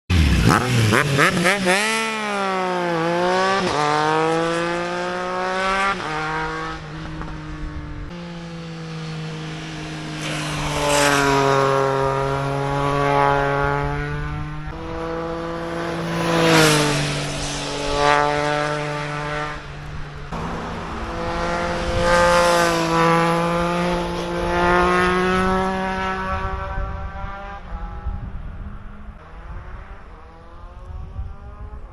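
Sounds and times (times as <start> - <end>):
motorcycle engine riding past: 0.1 - 31.9.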